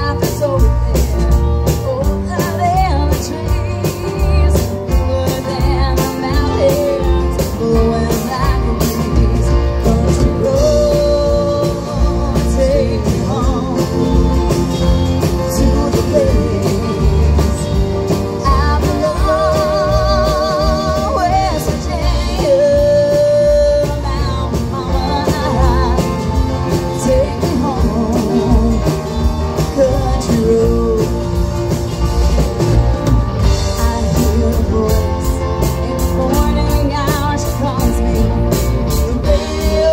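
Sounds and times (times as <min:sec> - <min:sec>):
country rock band playing: 0:00.0 - 0:39.9
person singing: 0:00.0 - 0:39.9.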